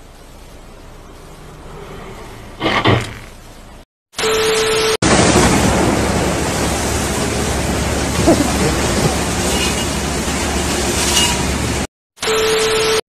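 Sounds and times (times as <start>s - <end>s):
car wash water spray and brushes: 0.0s - 11.9s.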